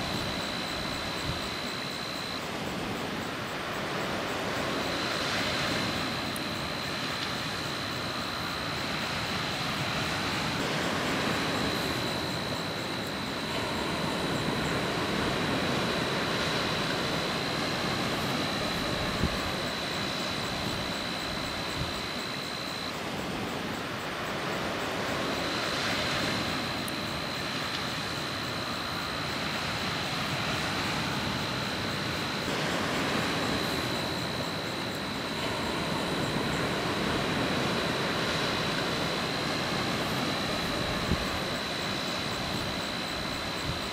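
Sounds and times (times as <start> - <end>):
surf washing on shore: 0.0 - 43.9.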